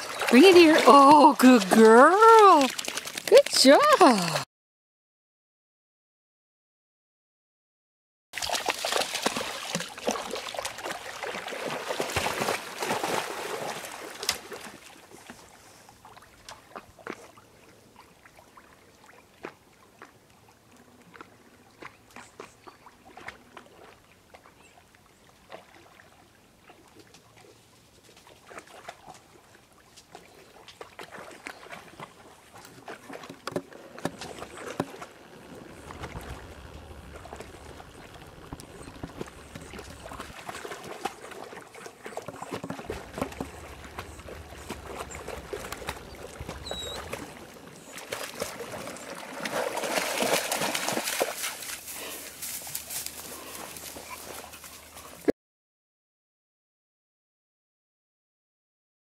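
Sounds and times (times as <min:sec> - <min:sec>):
puppies splashing in water: 0:00.0 - 0:04.4, 0:08.4 - 0:24.6, 0:25.4 - 0:55.3.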